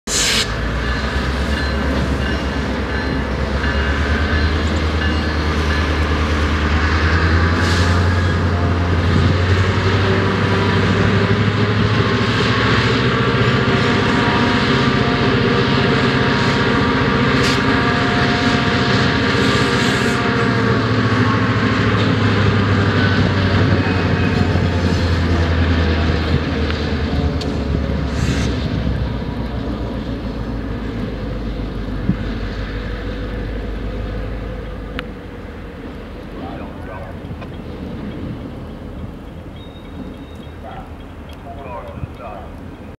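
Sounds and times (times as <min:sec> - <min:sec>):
diesel locomotive engine drone: 0:00.1 - 0:42.9
rumble of moving train: 0:00.1 - 0:42.9.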